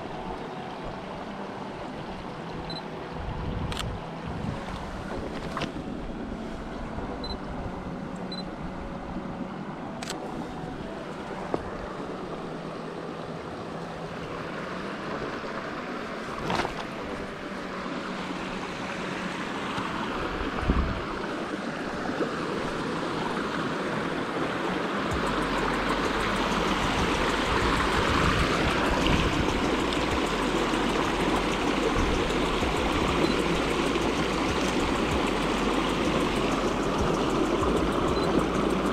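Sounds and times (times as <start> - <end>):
small river rushing: 0.0 - 38.9.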